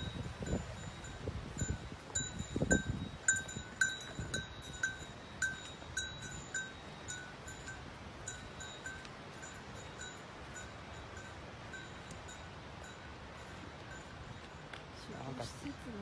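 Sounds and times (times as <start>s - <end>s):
small metal bell ringing: 0.0s - 15.6s.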